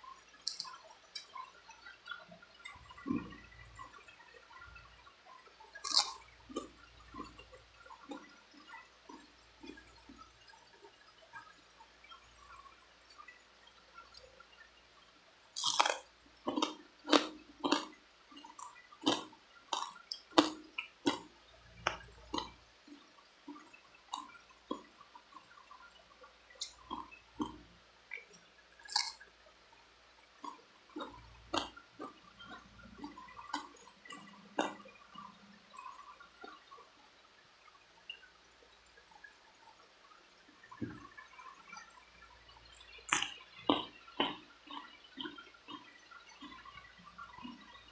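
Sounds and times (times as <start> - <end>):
chewing with wet smacks: 0.4 - 4.7, 5.3 - 13.3, 15.5 - 29.3, 30.4 - 36.9, 40.5 - 47.9.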